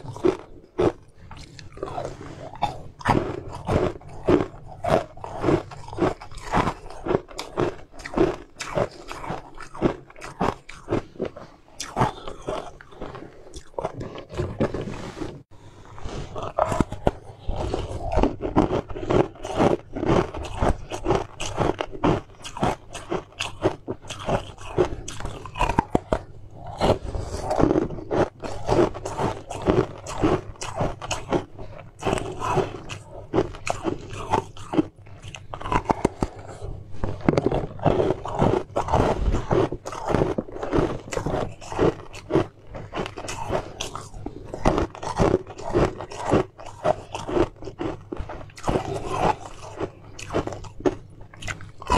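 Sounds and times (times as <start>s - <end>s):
crunching frozen treat: 0.0s - 51.9s.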